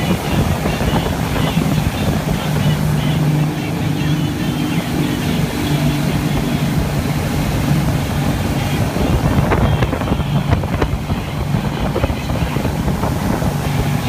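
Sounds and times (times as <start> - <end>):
boat engine running: 0.0 - 14.0
water rushing past: 0.0 - 14.0
wind buffeting microphone: 0.0 - 14.0.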